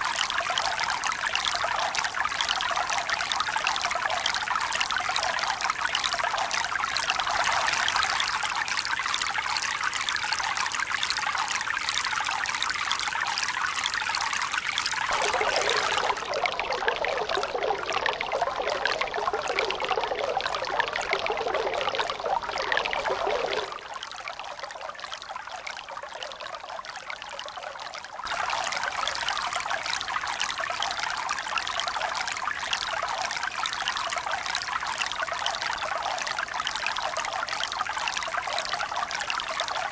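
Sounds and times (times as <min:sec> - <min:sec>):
running trickling water: 0:00.0 - 0:39.9.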